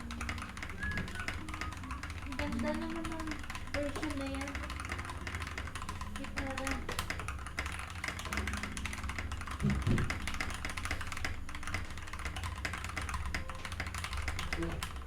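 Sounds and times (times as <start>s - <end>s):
rapid keyboard typing: 0.0s - 15.0s.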